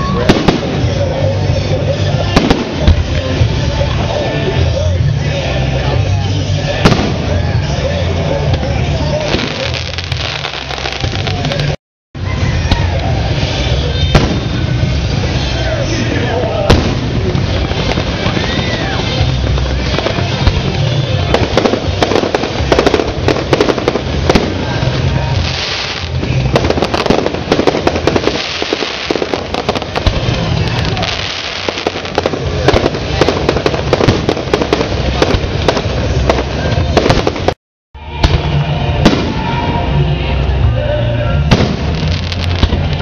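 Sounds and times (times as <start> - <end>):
fireworks bangs and crackles: 0.0 - 40.7, 41.4 - 43.0
music: 0.0 - 43.0.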